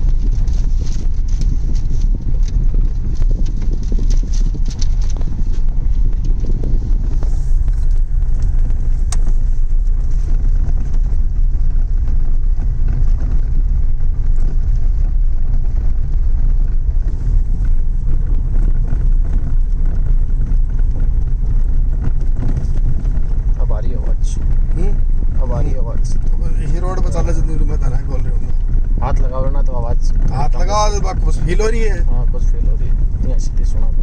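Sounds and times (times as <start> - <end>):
road and engine rumble in car: 0.0 - 34.0.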